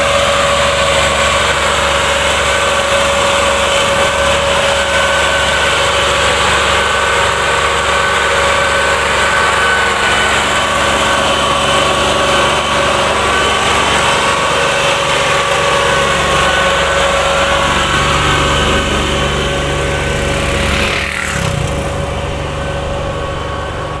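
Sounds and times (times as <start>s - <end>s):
motorcycle passing by: 0.0s - 24.0s
tractor diesel engine running: 0.0s - 24.0s.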